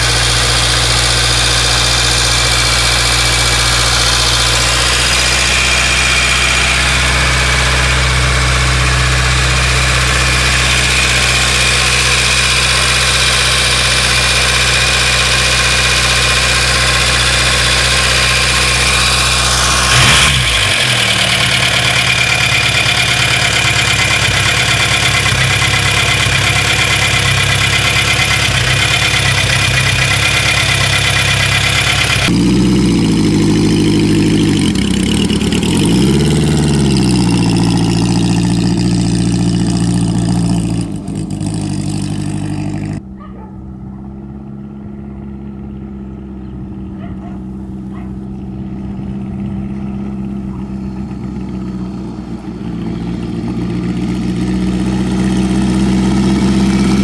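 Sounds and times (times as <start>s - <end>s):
motorcycle engine idling: 0.0s - 57.0s
motorcycle engine revving: 0.0s - 57.0s.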